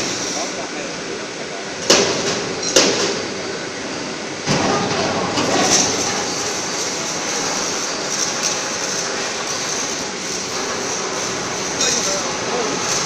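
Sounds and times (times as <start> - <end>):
factory machinery noise: 0.0 - 13.0.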